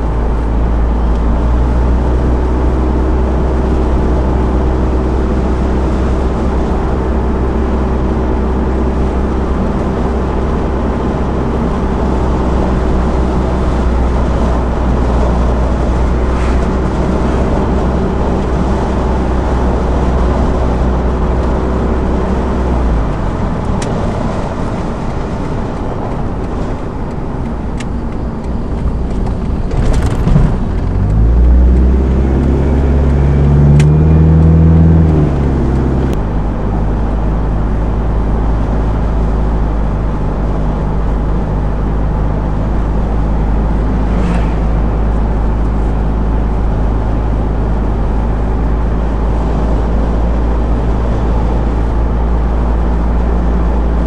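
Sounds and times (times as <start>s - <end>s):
car engine while driving: 0.0s - 54.0s
road noise inside car: 0.0s - 54.0s.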